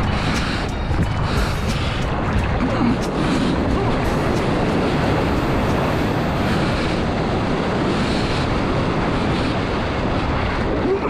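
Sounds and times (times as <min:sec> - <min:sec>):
whitewater rushing and splashing: 0:00.0 - 0:11.0
wind buffeting microphone: 0:00.0 - 0:11.0.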